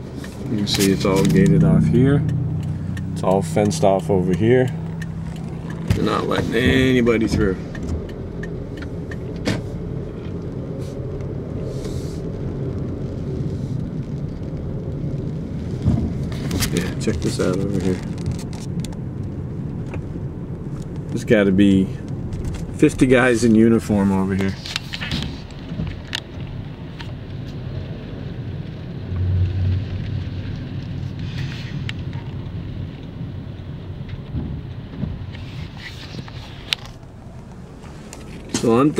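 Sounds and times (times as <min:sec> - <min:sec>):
car engine and tyre hum: 0:00.0 - 0:38.9.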